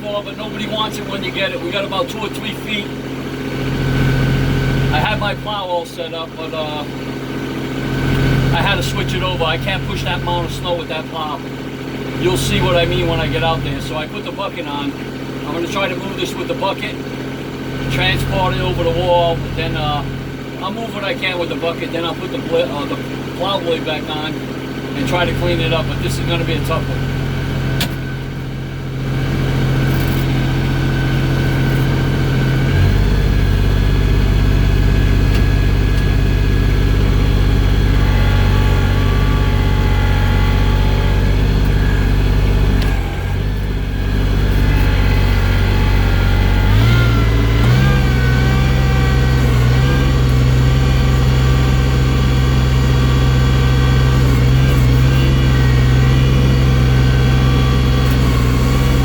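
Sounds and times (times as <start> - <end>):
loader engine running: 0.0 - 59.0.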